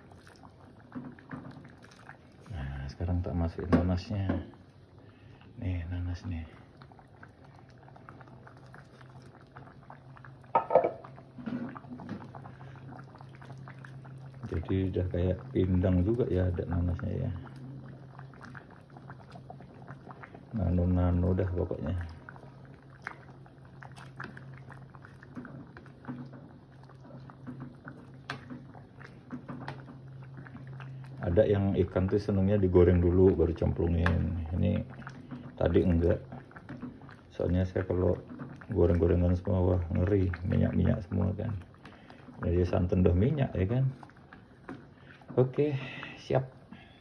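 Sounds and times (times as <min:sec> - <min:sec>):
stew bubbling in a pot: 0:00.0 - 0:47.0.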